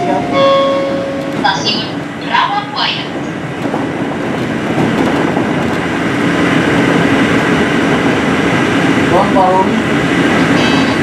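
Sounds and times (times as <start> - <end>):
steady train hum: 0.0 - 11.0
train running rumble on track: 0.0 - 11.0.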